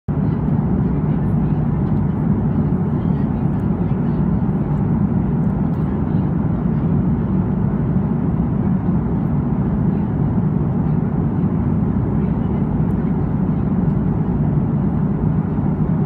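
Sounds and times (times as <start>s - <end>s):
airliner cabin engine noise: 0.1s - 16.0s.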